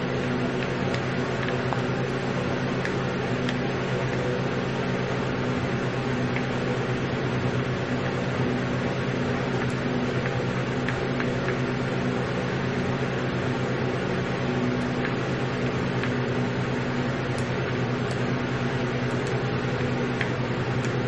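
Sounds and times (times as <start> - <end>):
low electrical buzz: 0.0 - 21.0.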